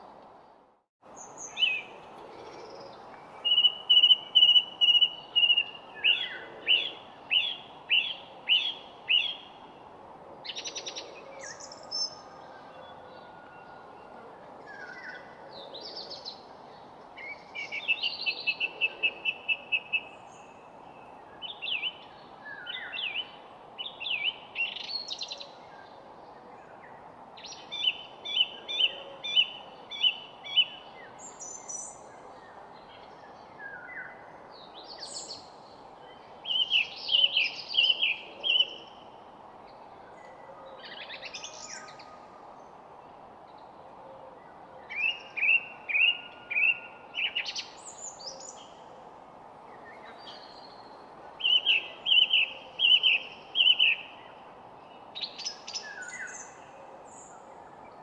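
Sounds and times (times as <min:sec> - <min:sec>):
steady background hiss: 0:00.0 - 0:58.0
songbirds singing: 0:01.0 - 0:58.0.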